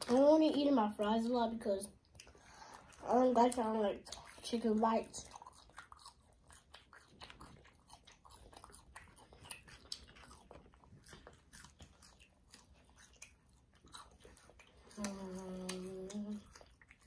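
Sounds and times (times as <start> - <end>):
faint chewing and crunching: 0.0 - 17.0.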